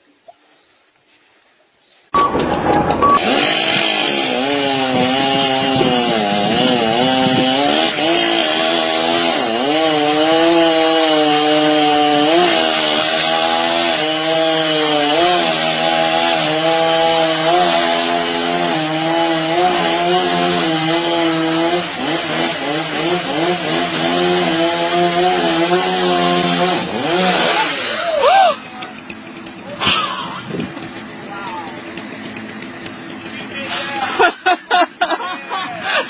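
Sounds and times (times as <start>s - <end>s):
motor running hard: 3.1s - 34.2s.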